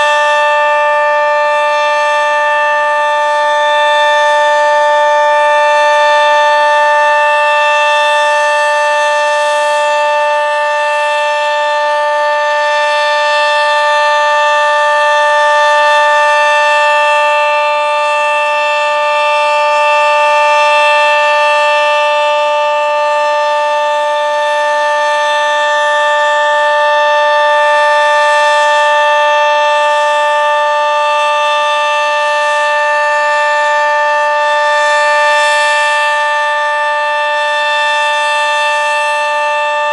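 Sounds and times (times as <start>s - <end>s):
two-tone warning siren: 0.0s - 39.9s.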